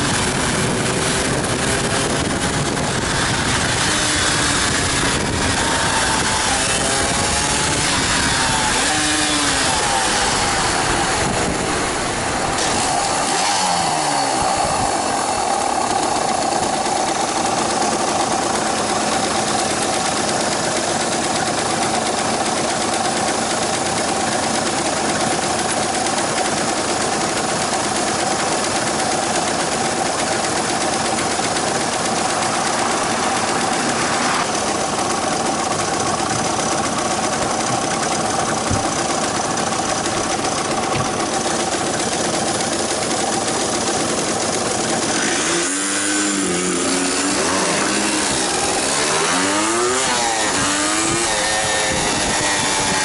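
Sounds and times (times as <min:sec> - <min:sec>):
two-stroke motorcycle engine running: 0:00.0 - 0:53.0.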